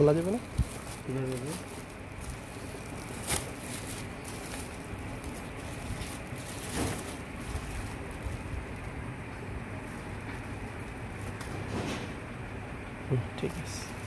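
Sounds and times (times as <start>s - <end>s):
plastic wrapping crinkling: 0.0s - 11.5s.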